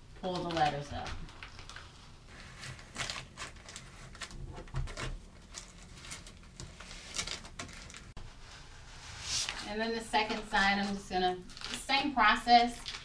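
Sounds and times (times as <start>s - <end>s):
tape peeling and crinkling: 0.2s - 8.2s, 9.2s - 13.0s.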